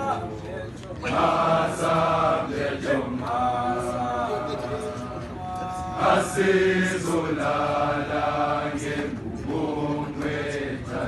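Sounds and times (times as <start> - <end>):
boys singing chant in unison: 1.0 - 11.0.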